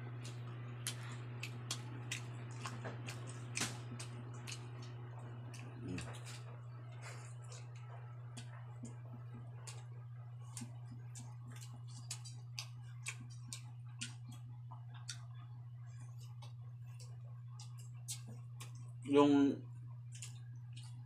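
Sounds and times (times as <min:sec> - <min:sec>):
steady low hum: 0:00.0 - 0:21.0
chewing with lip smacks: 0:00.2 - 0:19.1, 0:19.8 - 0:21.0.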